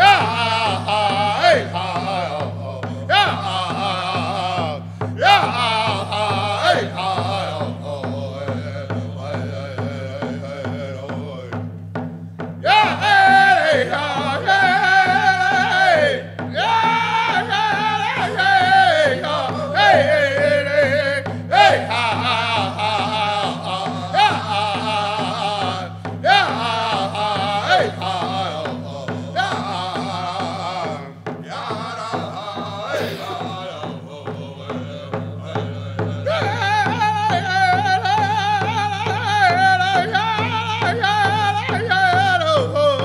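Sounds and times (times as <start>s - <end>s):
hand drum steady beat: 0.0s - 43.0s
men singing in high wavering phrases: 0.0s - 43.0s.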